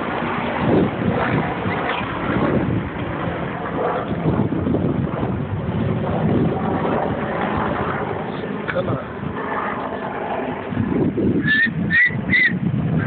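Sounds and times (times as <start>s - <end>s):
rumbling street noise: 0.0s - 13.0s
wind buffeting microphone: 0.0s - 13.0s.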